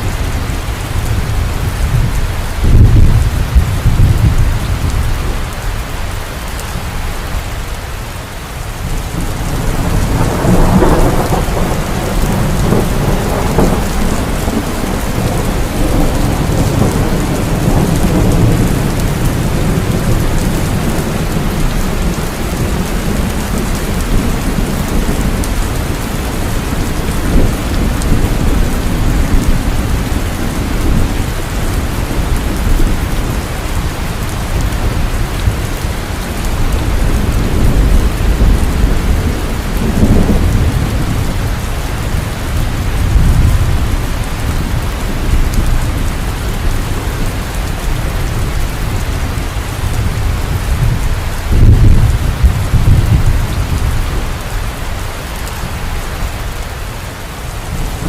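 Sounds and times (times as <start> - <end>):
thunder rumbling: 0.0 - 7.5, 8.7 - 58.0
heavy rain: 0.0 - 58.0.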